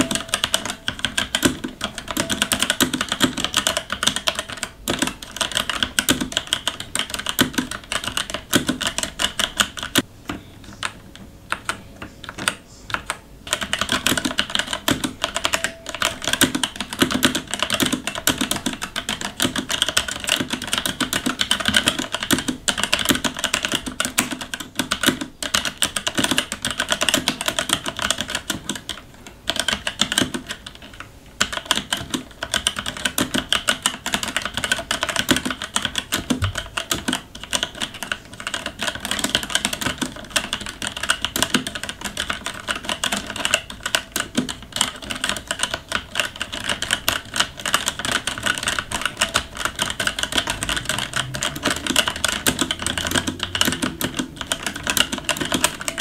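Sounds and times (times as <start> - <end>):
mechanical keyboard typing: 0.0 - 10.1, 10.8 - 56.0.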